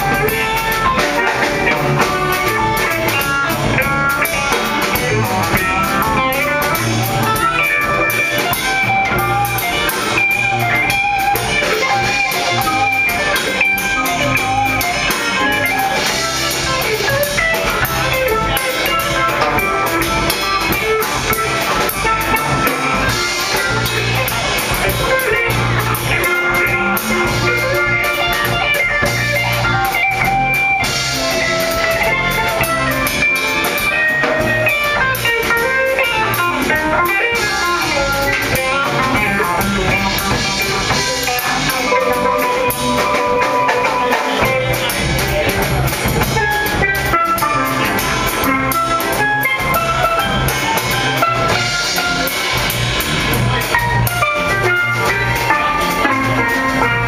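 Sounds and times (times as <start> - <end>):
electric guitar: 0.0 - 57.0
jazz band playing a waltz: 0.0 - 57.0.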